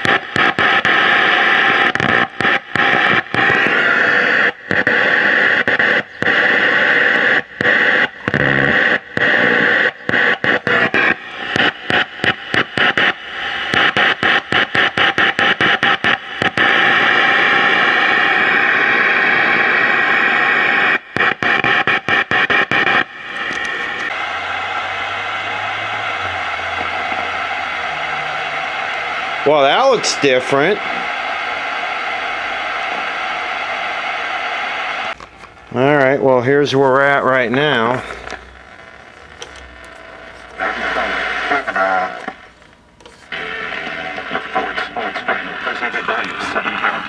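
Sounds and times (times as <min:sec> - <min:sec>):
television static hiss: 0:00.0 - 0:47.0.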